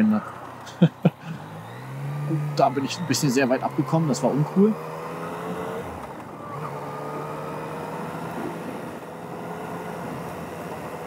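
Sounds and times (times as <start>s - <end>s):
motorcycle engine running: 0.2s - 11.0s.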